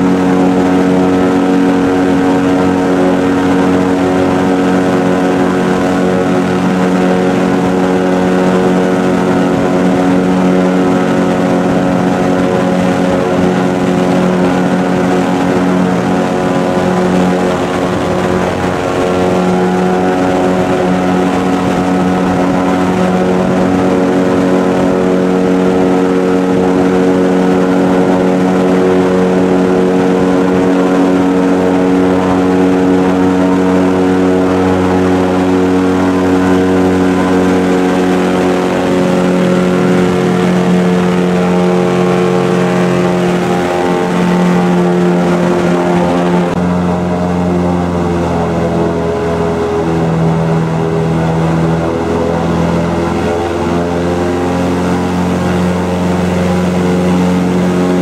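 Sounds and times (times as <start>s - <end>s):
airboat engine and propeller drone: 0.0s - 58.0s.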